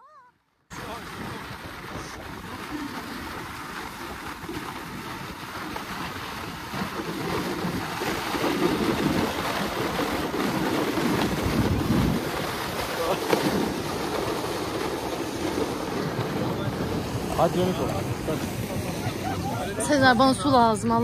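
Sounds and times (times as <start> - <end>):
sled rushing on snow: 0.7 - 21.0
wind buffeting microphone: 0.7 - 21.0.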